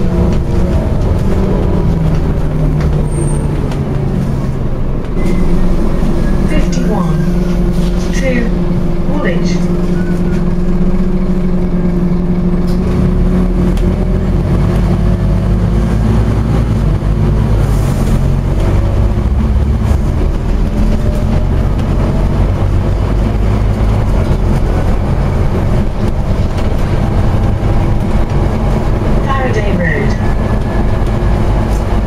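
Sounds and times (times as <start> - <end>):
bus engine running: 0.0 - 32.0.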